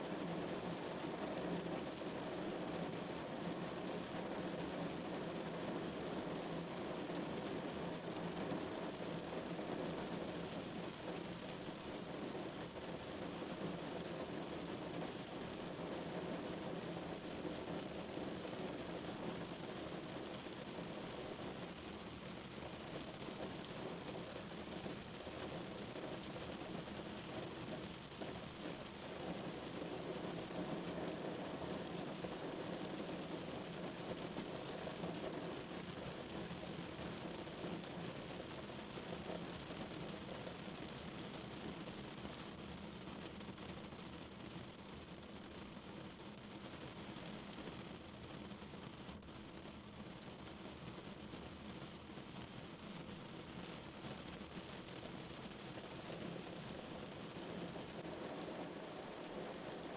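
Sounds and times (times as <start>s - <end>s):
rain falling on a car: 0.0s - 59.9s.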